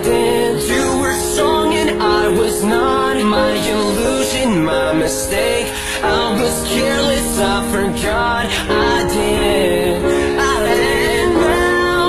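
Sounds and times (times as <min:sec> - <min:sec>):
song with singing voice: 0:00.0 - 0:12.0.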